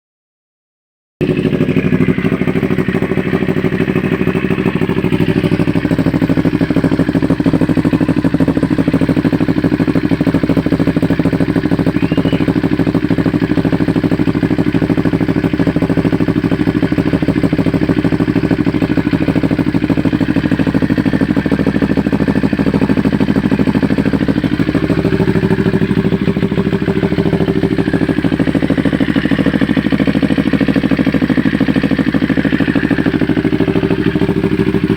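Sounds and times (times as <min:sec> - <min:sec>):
motorcycle engine idling: 0:01.2 - 0:34.9.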